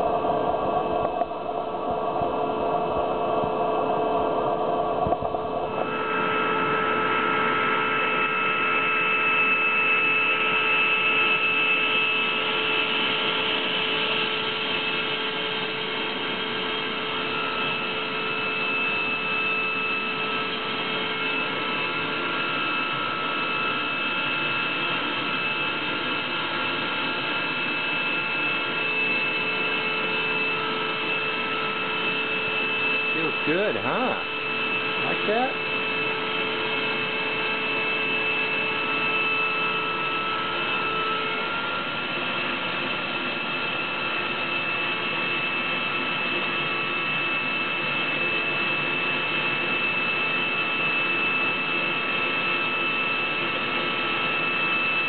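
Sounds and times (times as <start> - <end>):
vacuum cleaner running: 1.8 - 55.0.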